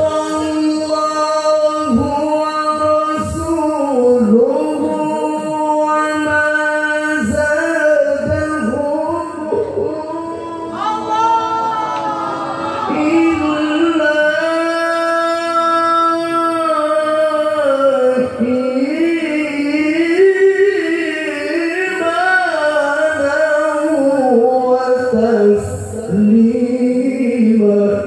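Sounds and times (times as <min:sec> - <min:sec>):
man reciting melodically: 0:00.0 - 0:28.0.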